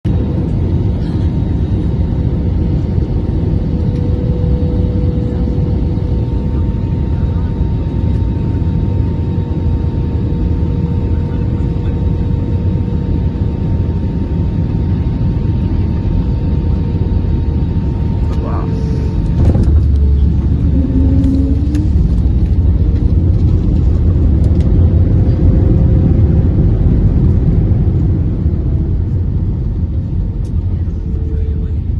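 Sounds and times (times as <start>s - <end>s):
airliner engines rumbling in cabin: 0.0s - 31.9s.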